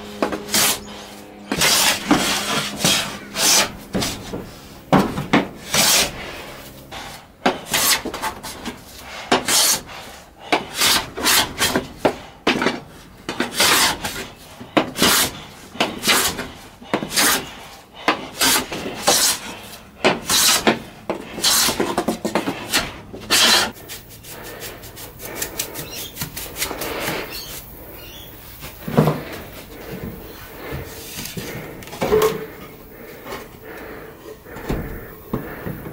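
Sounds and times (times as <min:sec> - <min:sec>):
hand plane shaving wood: 0:00.0 - 0:35.9.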